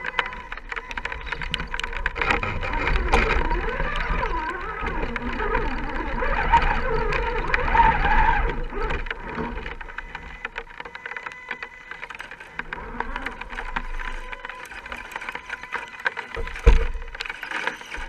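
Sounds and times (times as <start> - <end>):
electric motor whining: 0.0 - 18.0
sharp clicks: 0.0 - 18.0.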